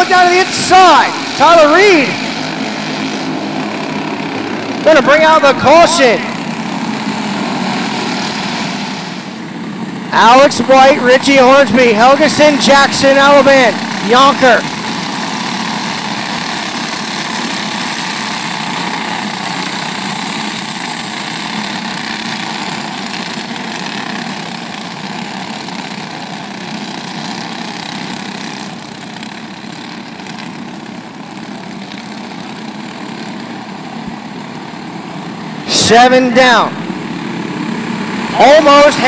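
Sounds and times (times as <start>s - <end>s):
racing kart engines droning: 0.0s - 39.0s.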